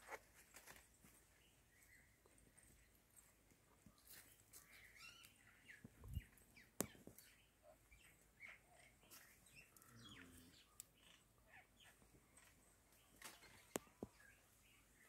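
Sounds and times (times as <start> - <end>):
faint bird chirps: 0.6 - 15.0.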